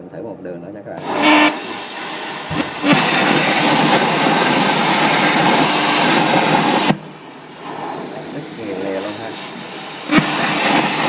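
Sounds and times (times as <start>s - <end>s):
plasma cutter hissing: 1.0s - 11.0s
rush of air: 1.0s - 11.0s.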